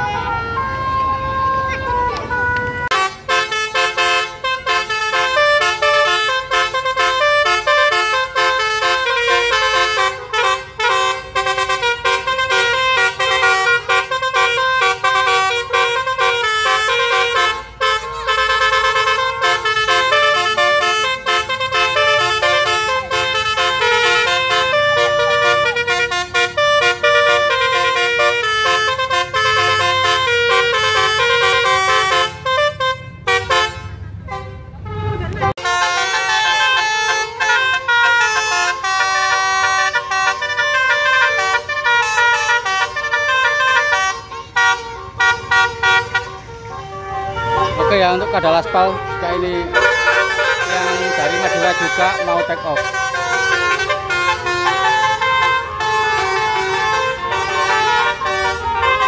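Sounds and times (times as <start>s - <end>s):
musical air horns playing tunes: 0.0s - 59.0s.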